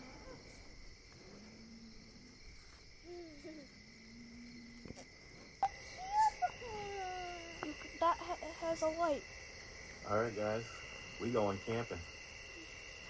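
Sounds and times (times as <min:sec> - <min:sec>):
crickets chirring: 0:00.0 - 0:13.0
high pulsing insect chirr: 0:00.0 - 0:13.0.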